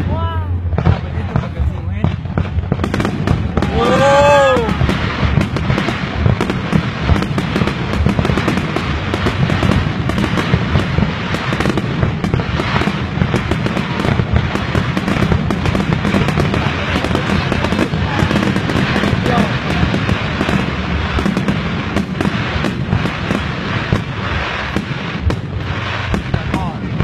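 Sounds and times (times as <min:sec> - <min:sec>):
fireworks crackling and popping: 0:00.0 - 0:27.0.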